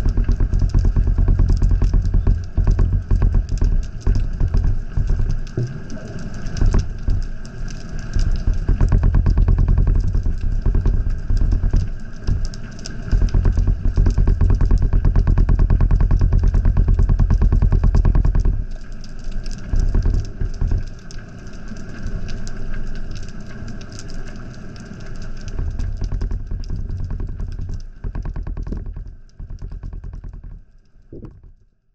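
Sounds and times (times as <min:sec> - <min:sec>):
pulsing mechanical drone underwater: 0:00.0 - 0:31.6.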